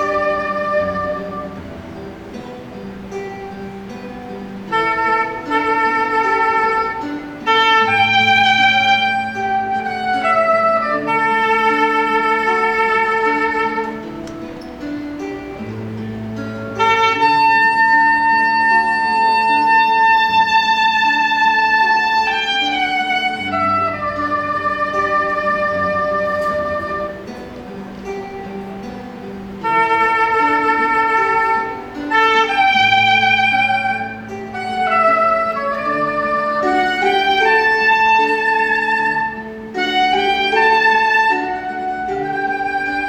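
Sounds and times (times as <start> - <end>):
chordal accompaniment: 0.0 - 43.0
soprano saxophone melody: 0.0 - 43.0.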